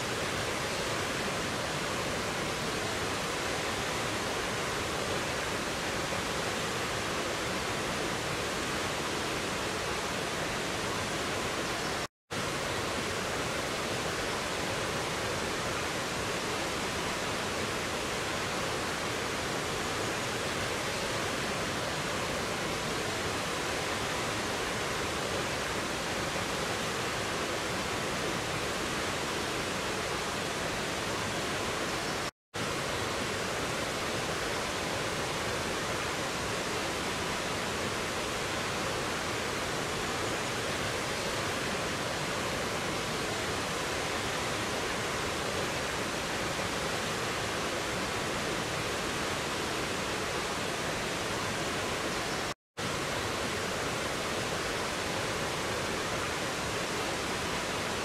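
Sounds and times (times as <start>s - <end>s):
stream rushing over boulders: 0.0s - 58.0s.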